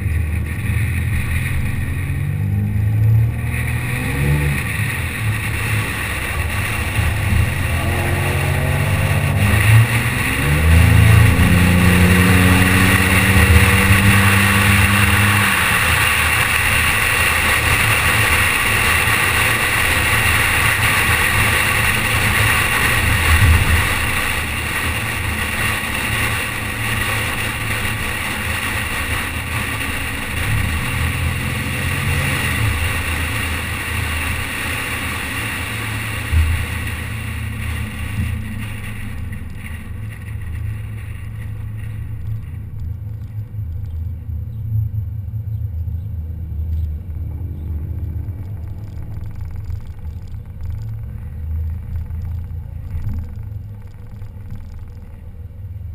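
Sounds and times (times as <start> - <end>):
car engine rumble: 0.0 - 55.9
road and wind hiss: 0.0 - 55.9.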